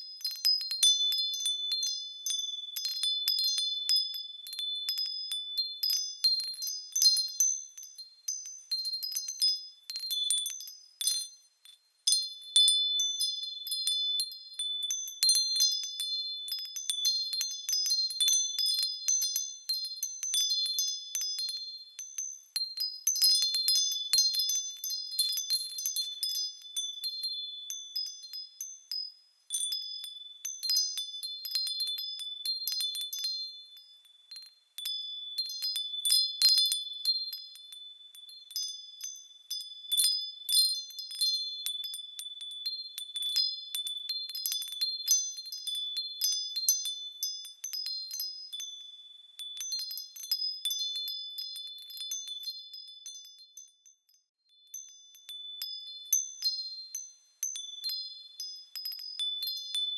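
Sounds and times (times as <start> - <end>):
small bells chiming: 0.0 - 59.9.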